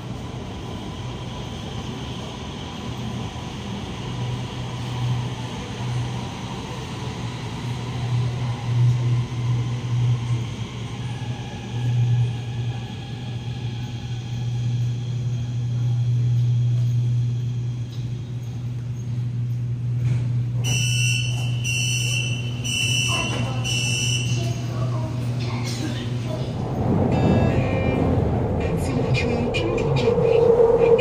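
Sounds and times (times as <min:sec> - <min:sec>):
train humming: 0:00.0 - 0:31.0.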